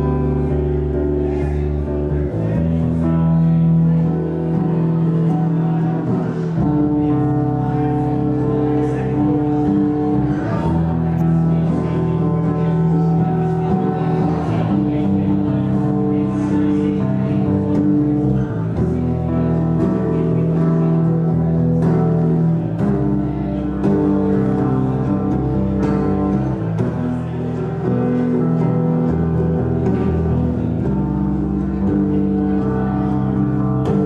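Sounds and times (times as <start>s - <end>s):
guitar playing: 0.0s - 34.0s
sustained low notes: 0.0s - 34.0s.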